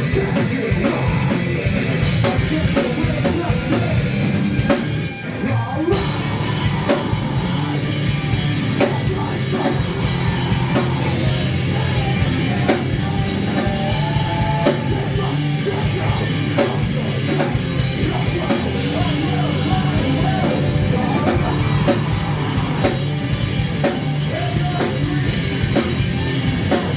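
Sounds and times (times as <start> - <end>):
distorted guitars: 0.0 - 26.9
live rock band playing: 0.0 - 26.9
pounding drum kit: 0.0 - 26.9.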